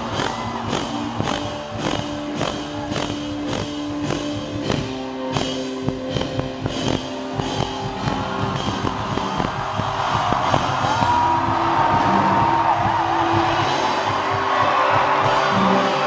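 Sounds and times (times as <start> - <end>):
drum kits beating: 0.0 - 16.0.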